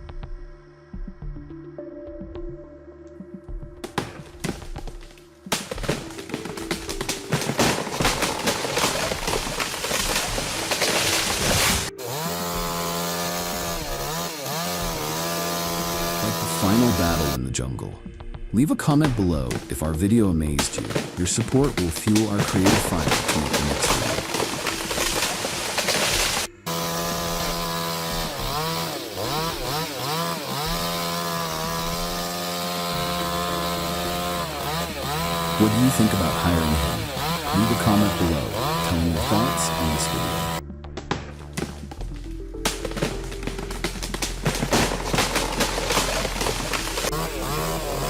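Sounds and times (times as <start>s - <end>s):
chainsaw engine running: 4.4s - 17.4s, 20.6s - 40.6s, 41.6s - 48.0s.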